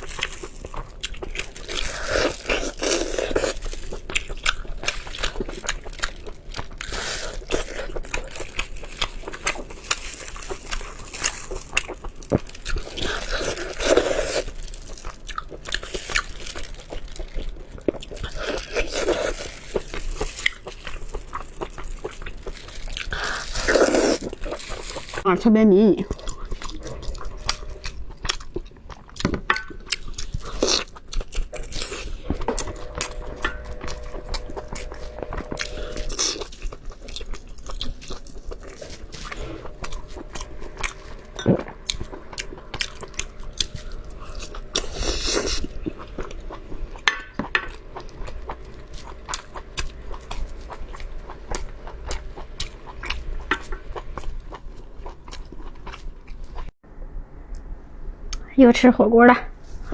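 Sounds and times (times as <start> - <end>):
close chewing and biting food: 0.0 - 25.2, 26.0 - 56.7.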